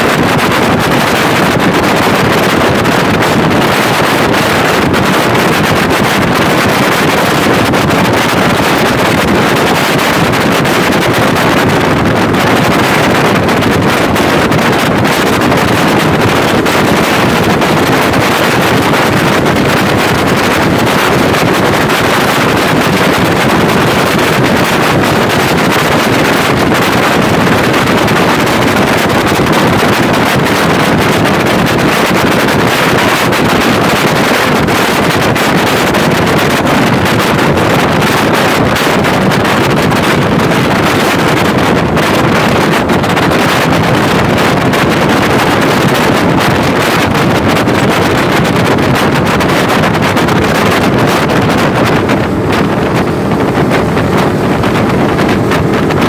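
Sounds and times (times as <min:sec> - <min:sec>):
car road noise: 0:00.0 - 0:56.0
wind buffeting microphone: 0:00.0 - 0:56.0.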